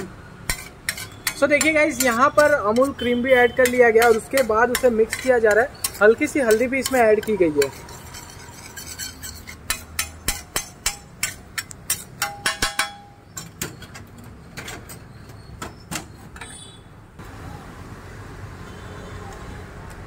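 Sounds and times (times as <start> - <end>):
metal spatula clanking on griddle: 0.4 - 16.6.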